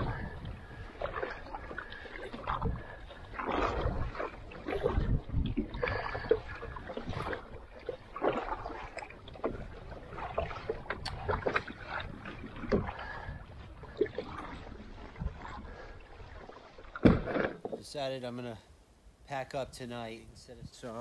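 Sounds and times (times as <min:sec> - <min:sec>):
water dripping off paddle: 0:00.0 - 0:17.9
paddle strokes splashing: 0:00.0 - 0:18.3.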